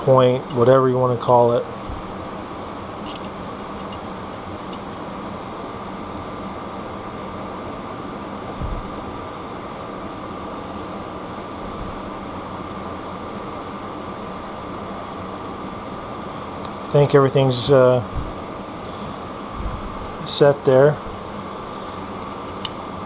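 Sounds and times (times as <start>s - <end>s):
faint high whine: 0.0s - 23.0s
machine hum and hiss: 0.0s - 23.0s.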